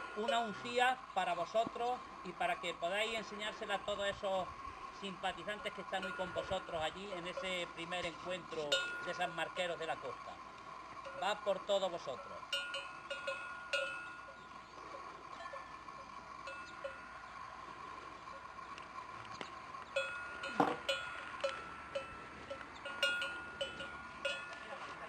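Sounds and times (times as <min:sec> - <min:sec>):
cattle bells clanking: 0:00.0 - 0:04.3, 0:05.0 - 0:25.0.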